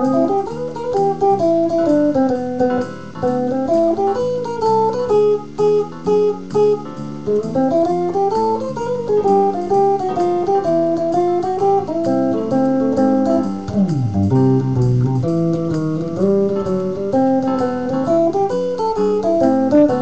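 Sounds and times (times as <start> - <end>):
electric guitar jazz solo: 0.0 - 20.0.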